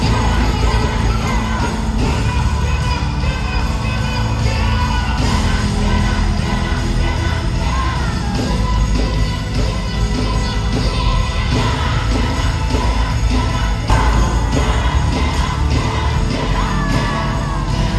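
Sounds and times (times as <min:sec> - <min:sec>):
gospel band with heavy bass: 0:00.0 - 0:17.9
voices singing: 0:00.0 - 0:17.9.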